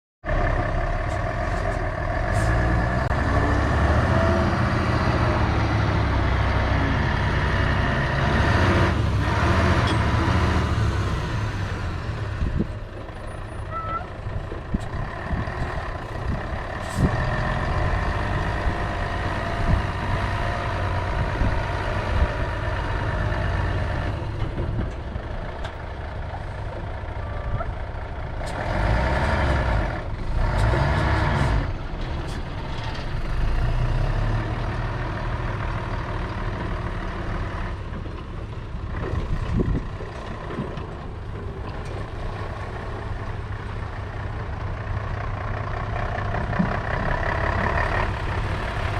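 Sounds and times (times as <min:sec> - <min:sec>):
diesel truck engine drone: 0:00.2 - 0:48.9.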